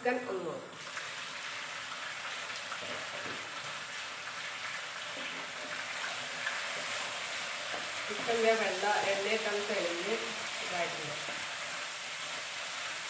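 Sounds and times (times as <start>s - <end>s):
chicken sizzling in a frying pan: 0.8s - 13.0s
spatula turning food in pan: 1.4s - 13.0s.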